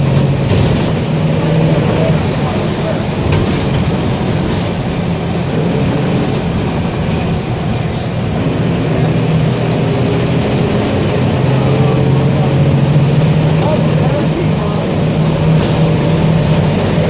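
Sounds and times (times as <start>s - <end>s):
diesel bus engine droning: 0.0s - 17.0s.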